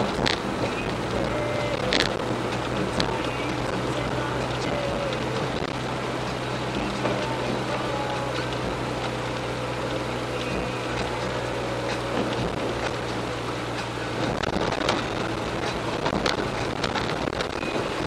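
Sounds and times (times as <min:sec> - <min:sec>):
car engine hum: 0:00.0 - 0:18.0
constant hiss: 0:00.0 - 0:18.0.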